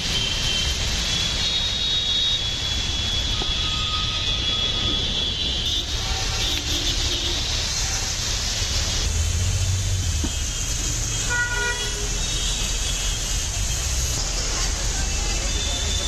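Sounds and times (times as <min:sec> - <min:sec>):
heavy rain: 0:00.0 - 0:16.0
water splashing under wheels: 0:00.0 - 0:16.0
low rumble of vehicle engines: 0:02.6 - 0:16.0.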